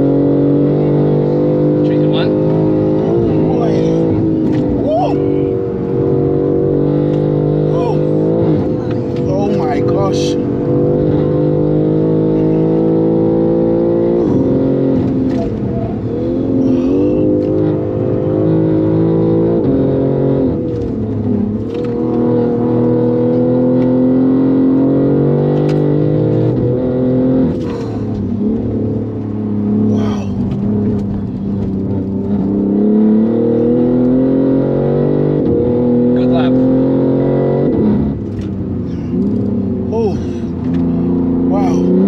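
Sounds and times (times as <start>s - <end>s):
car engine high drone in cabin: 0.0s - 42.0s.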